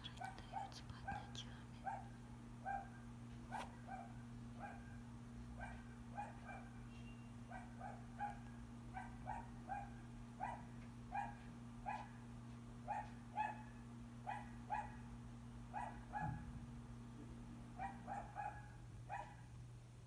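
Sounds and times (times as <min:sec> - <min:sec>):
steady low hum: 0:00.0 - 0:20.0
dog yapping faintly: 0:00.2 - 0:05.0, 0:05.6 - 0:12.2, 0:12.9 - 0:15.1, 0:15.8 - 0:16.5, 0:17.8 - 0:19.5.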